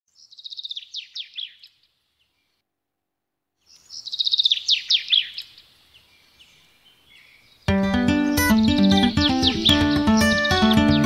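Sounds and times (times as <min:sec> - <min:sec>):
songbird song phrase: 0:00.1 - 0:02.6, 0:03.6 - 0:11.0.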